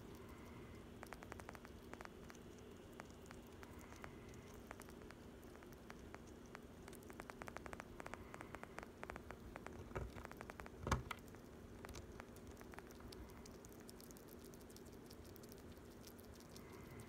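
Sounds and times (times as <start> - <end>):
faint background hum: 0.0 - 17.0
small animal crunching food: 0.0 - 17.0.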